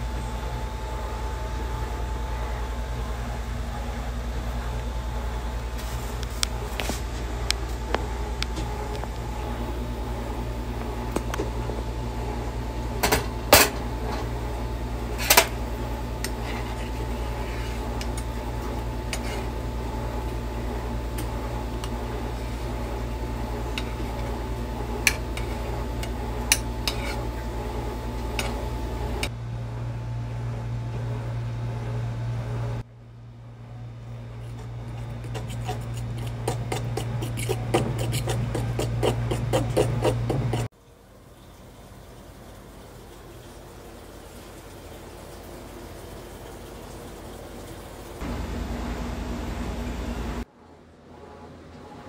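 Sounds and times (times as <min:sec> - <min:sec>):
steady low hum: 0:00.0 - 0:46.4, 0:48.2 - 0:52.0.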